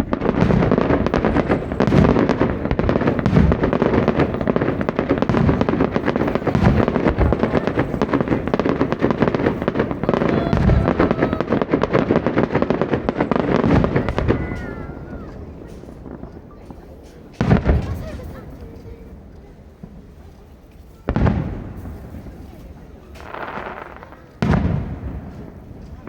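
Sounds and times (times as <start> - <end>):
fireworks booming: 0.0 - 26.0
fireworks crackling: 0.0 - 26.0.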